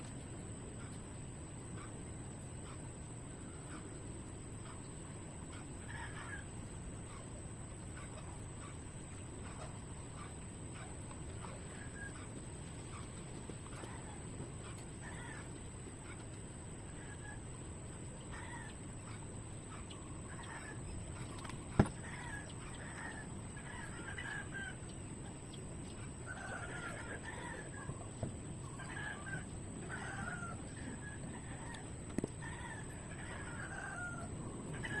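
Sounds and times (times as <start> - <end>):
low background noise: 0.0 - 35.0.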